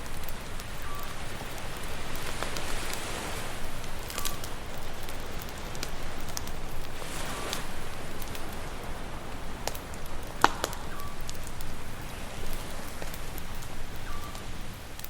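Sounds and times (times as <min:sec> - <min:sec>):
campfire crackling and popping: 0:00.0 - 0:15.0
sea waves: 0:00.0 - 0:15.0.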